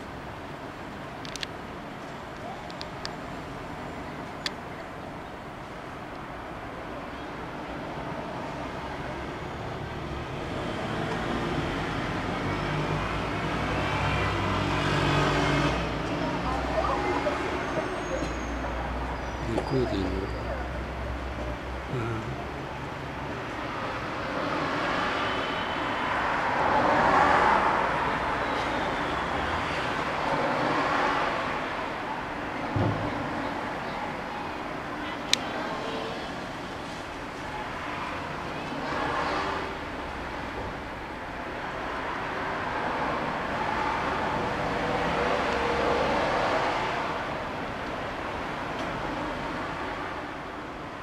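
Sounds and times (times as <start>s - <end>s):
hum of passing traffic: 0.0s - 51.0s.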